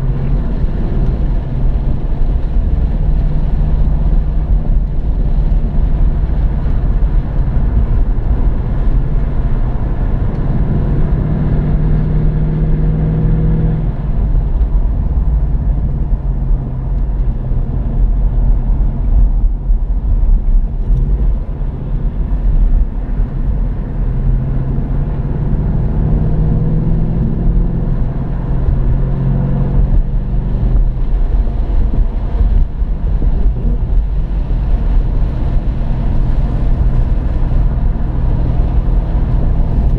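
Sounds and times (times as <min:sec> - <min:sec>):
car engine from inside cabin: 0:00.0 - 0:39.9
road and wind noise: 0:00.0 - 0:39.9.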